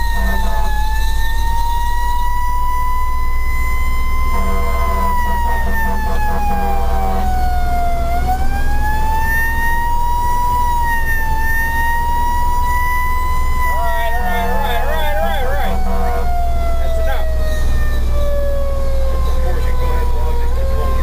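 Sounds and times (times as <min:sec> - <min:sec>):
engine and road rumble: 0:00.0 - 0:21.0
fire truck siren wailing: 0:00.0 - 0:21.0.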